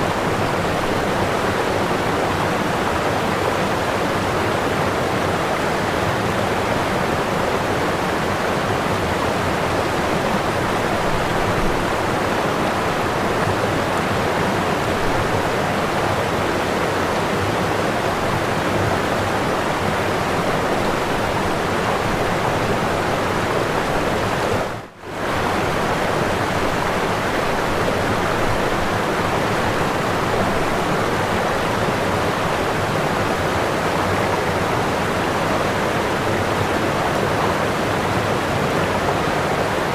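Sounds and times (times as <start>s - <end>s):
waterfall rushing roar: 0.0s - 39.9s.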